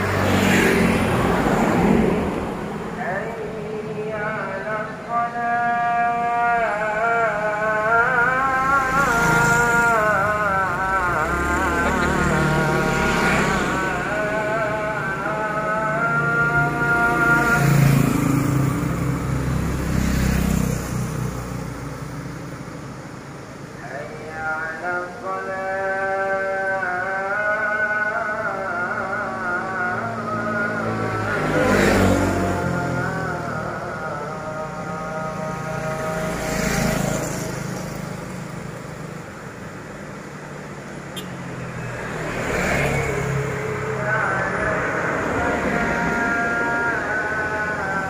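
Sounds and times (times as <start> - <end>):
motorcycles riding past: 0.0 - 4.8, 5.7 - 22.6, 25.7 - 48.0
low hum of engines: 0.0 - 48.0
vehicle approaching: 0.0 - 48.0.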